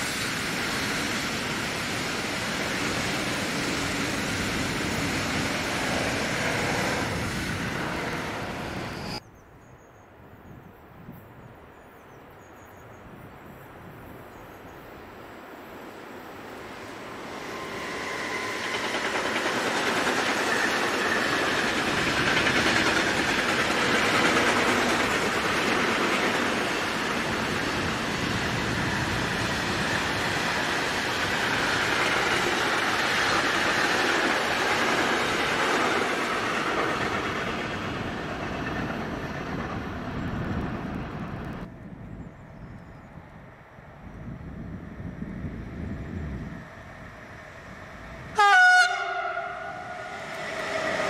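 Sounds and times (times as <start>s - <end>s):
train wheels on rails: 0.0s - 9.2s, 15.6s - 41.9s, 43.1s - 51.0s.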